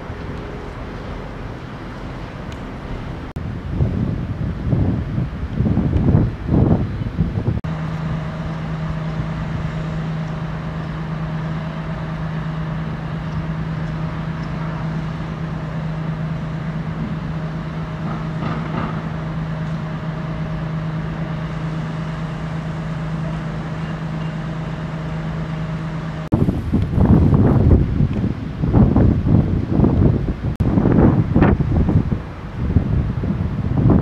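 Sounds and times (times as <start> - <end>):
constant low hum: 0.0 - 34.0
traffic noise: 0.0 - 34.0.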